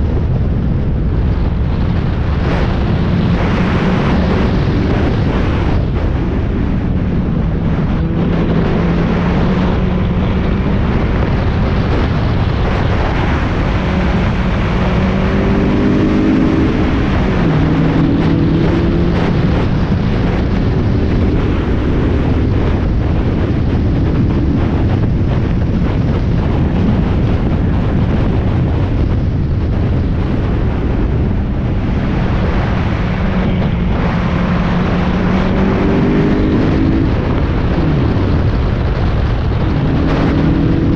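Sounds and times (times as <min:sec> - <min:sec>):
road noise: 0:00.0 - 0:40.9
wind noise: 0:00.0 - 0:40.9.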